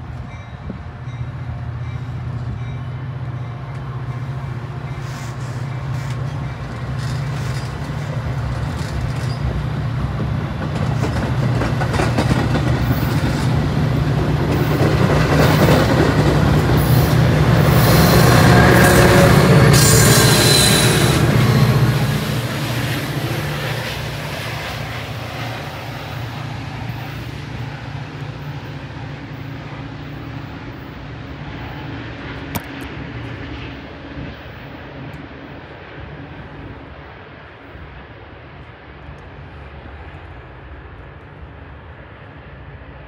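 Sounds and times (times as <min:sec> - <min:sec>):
diesel train engine drone: 0:00.0 - 0:43.0
train rail noise: 0:00.0 - 0:43.0.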